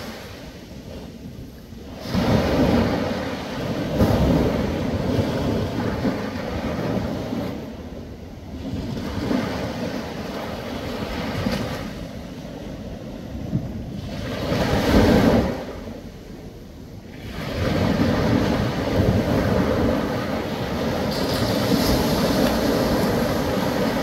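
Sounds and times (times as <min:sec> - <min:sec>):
small waves washing onto shore: 0:00.0 - 0:16.2, 0:17.1 - 0:24.0.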